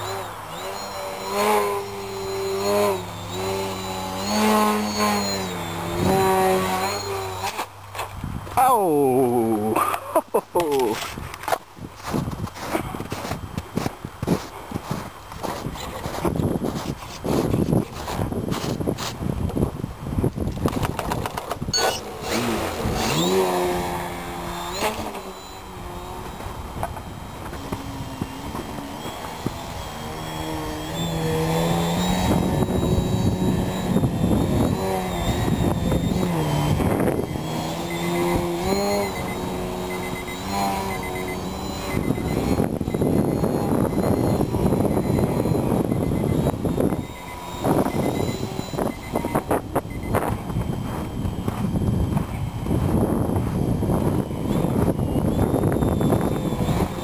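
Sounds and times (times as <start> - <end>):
model plane motor whining: 0.0 - 8.2, 12.0 - 19.6, 20.6 - 57.0
wind rumble on microphone: 0.0 - 8.6, 11.0 - 57.0.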